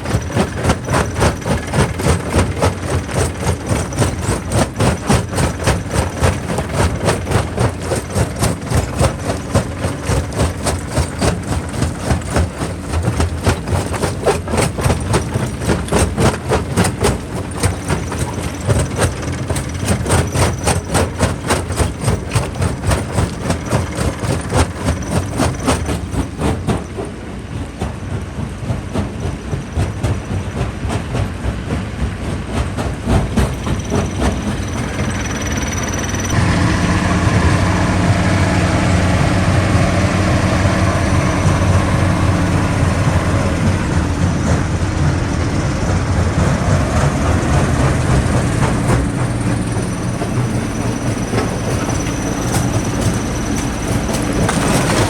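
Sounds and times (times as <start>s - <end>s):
low machine rumble: 0.0s - 55.0s.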